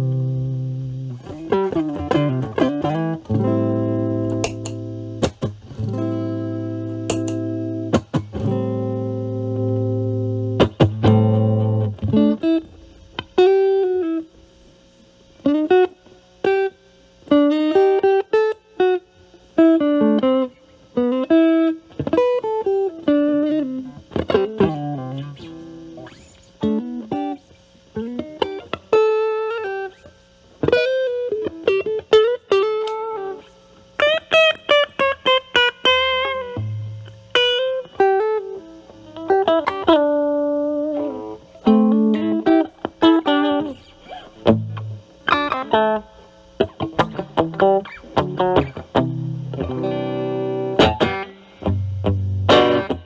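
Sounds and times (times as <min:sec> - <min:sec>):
distorted electric guitar licks: 0:00.0 - 0:53.0.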